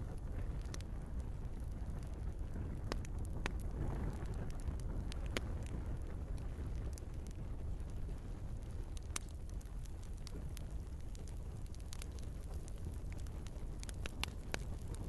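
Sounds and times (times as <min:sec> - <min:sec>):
log fire crackling pops: 0:00.0 - 0:15.0
flame rushing: 0:00.1 - 0:15.0.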